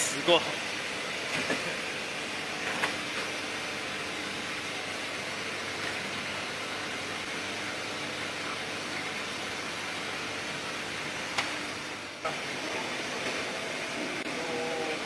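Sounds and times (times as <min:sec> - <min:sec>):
faint machinery hum: 0:00.0 - 0:15.0.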